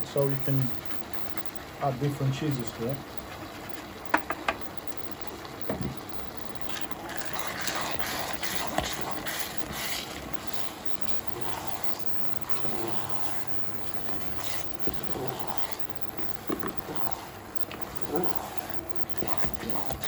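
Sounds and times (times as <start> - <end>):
scraping and stirring in a pan: 0.5 - 20.0.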